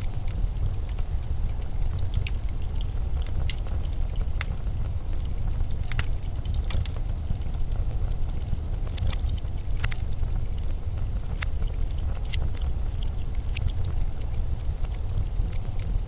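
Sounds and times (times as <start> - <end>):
sharp ticks and crackles: 0.0 - 16.0.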